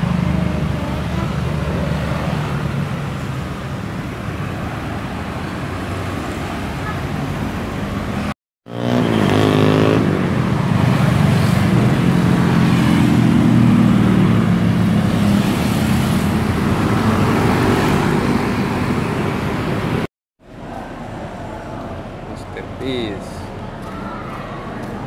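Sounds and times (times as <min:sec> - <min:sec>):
bus engine: 0:00.0 - 0:25.0
road noise: 0:00.0 - 0:25.0.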